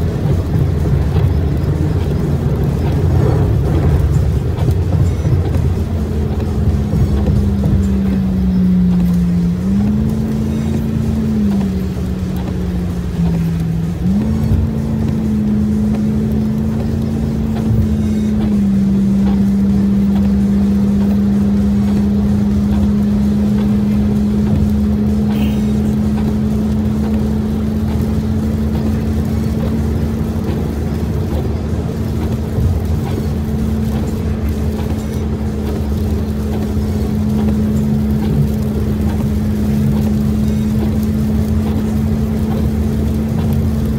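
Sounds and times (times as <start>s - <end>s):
engine and tyre rumble: 0.0s - 43.9s
engine drone: 0.0s - 43.9s.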